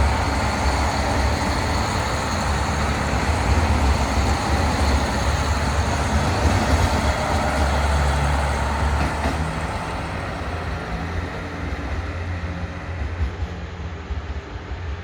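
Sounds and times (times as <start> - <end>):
diesel engines rumbling: 0.0 - 14.1.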